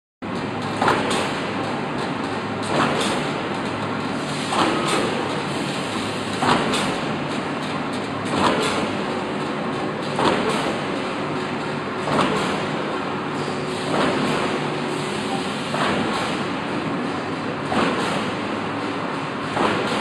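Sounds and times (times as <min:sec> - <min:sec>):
steady mechanical din: 0:00.2 - 0:20.0.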